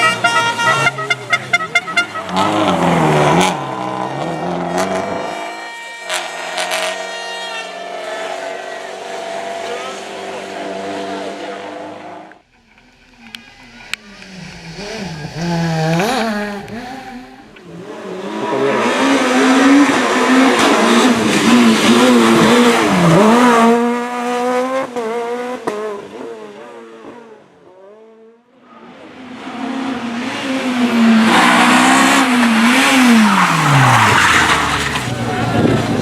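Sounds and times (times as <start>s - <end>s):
rally cars passing revving: 0.0s - 12.4s, 13.2s - 36.0s.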